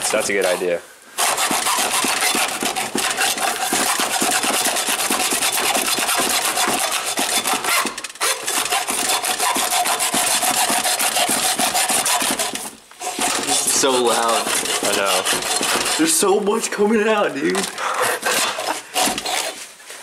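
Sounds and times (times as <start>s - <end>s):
hacksaw cutting through steel: 0.1s - 16.3s, 17.5s - 19.6s.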